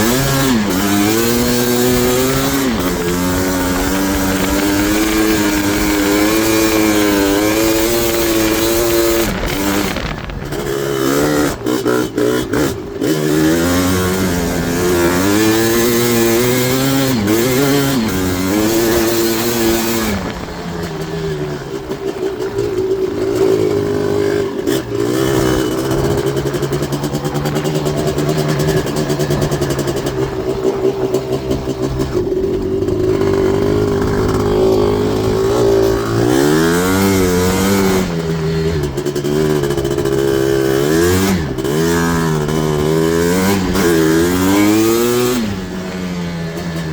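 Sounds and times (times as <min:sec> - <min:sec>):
two-stroke engine revving: 0:00.0 - 0:46.9.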